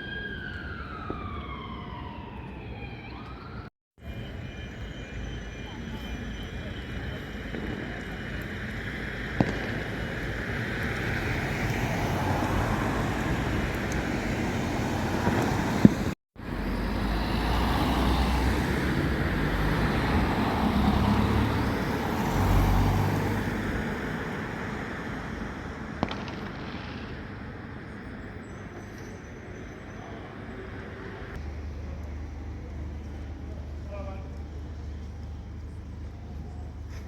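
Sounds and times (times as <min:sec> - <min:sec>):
vehicles driving past: 0:04.0 - 0:37.0.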